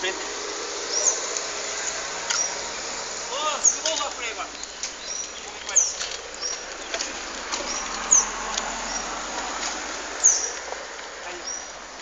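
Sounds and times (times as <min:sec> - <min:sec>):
birds chirping: 0:00.0 - 0:12.0
steady background hiss: 0:00.0 - 0:12.0.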